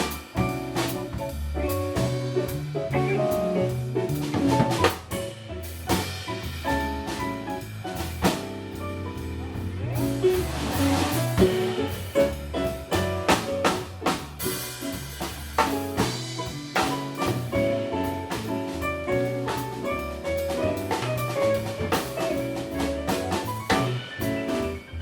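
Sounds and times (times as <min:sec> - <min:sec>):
drum kit playing busy beat: 0:00.0 - 0:25.0
jazz band music: 0:00.0 - 0:25.0.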